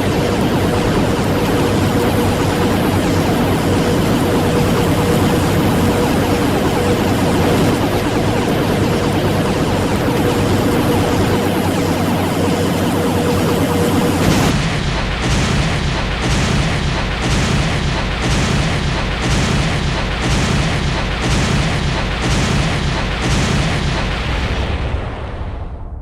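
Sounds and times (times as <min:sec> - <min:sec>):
pulsing rumbling booms: 0:00.0 - 0:26.0.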